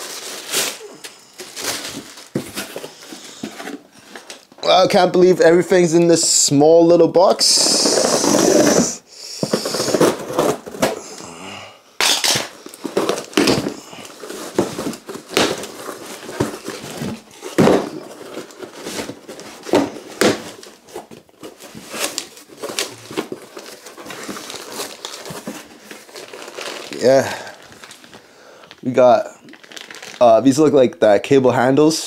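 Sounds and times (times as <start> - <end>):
cardboard and plastic rustling: 0.0 - 4.6, 7.4 - 11.3, 12.0 - 28.9, 29.5 - 30.3.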